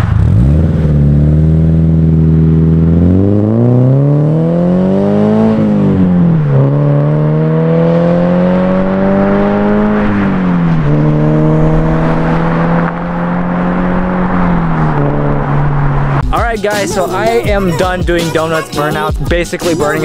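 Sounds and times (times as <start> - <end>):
car engine accelerating: 0.0 - 17.8.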